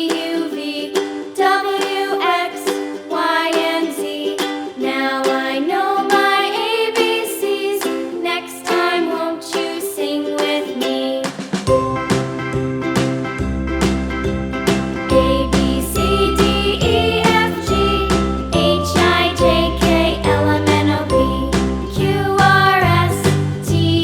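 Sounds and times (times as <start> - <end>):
upbeat music with plucked ukulele: 0.0 - 24.0.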